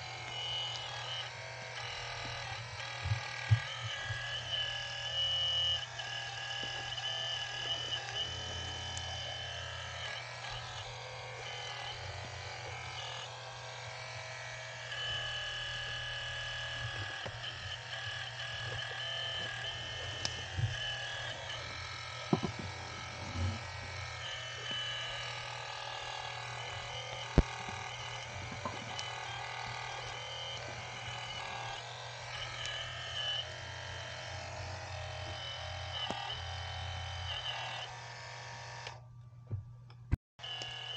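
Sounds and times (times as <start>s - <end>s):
hydraulic pump whining: 0.0s - 39.1s, 40.4s - 40.9s.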